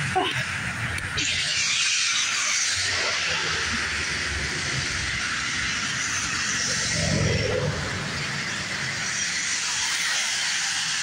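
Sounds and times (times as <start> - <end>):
low traffic rumble: 0.0 - 11.0
tyres hissing on wet road: 0.0 - 11.0.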